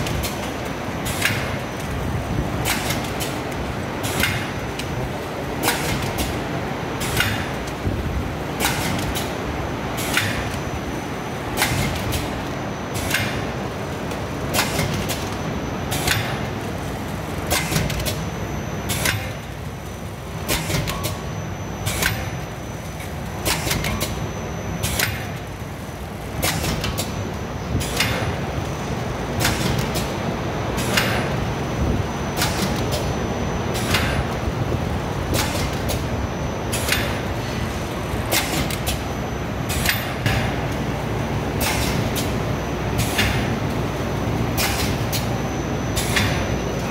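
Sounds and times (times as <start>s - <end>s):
packing machine humming: 0.0s - 46.9s.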